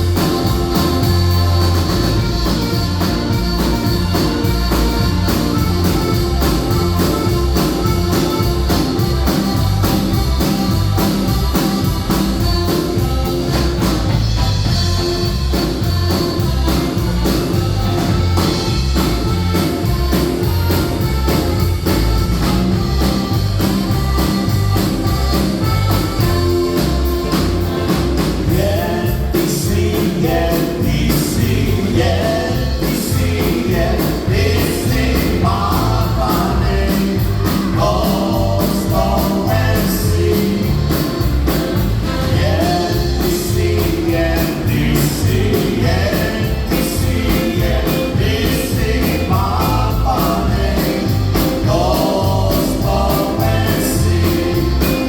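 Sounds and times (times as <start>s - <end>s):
polka band playing: 0.0s - 55.0s.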